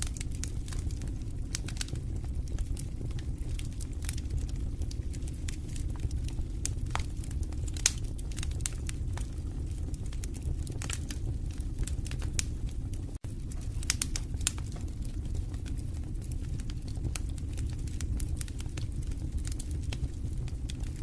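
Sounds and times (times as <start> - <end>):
flames burning low: 0.0 - 21.0
logs crackling and popping: 0.0 - 21.0.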